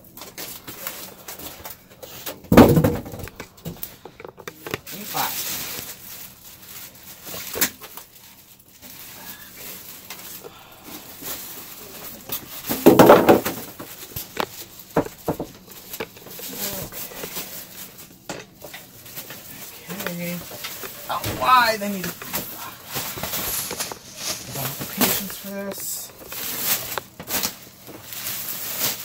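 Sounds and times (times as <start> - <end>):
plastic bag rustling: 0.0 - 29.0.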